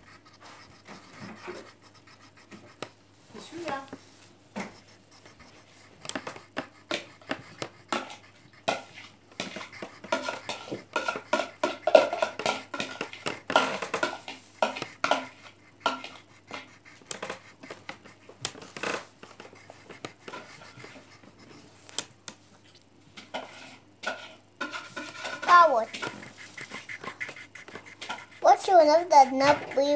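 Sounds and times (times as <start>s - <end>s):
pencil strokes on paper: 0.0s - 22.2s, 24.6s - 29.9s.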